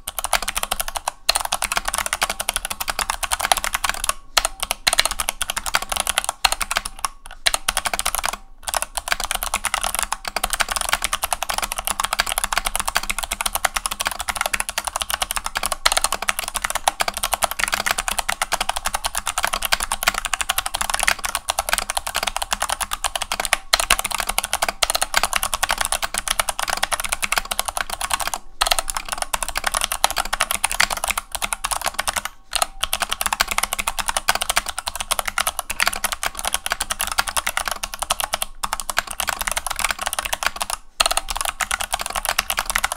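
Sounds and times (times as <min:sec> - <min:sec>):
clicky mechanical keyboard typing: 0:00.0 - 0:42.9.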